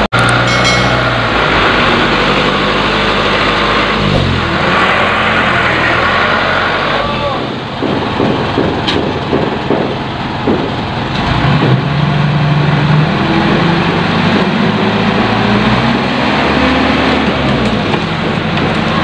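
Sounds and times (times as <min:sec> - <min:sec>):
diesel truck engine: 0:00.0 - 0:19.0.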